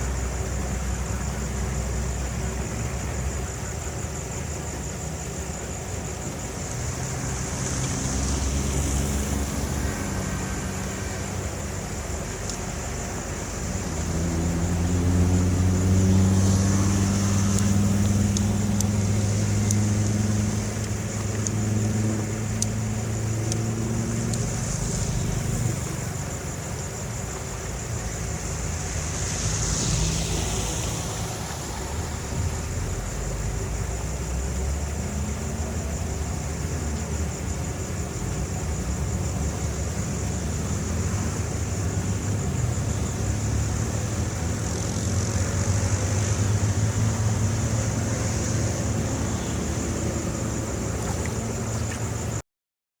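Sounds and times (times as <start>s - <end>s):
engine running: 0.0s - 52.4s.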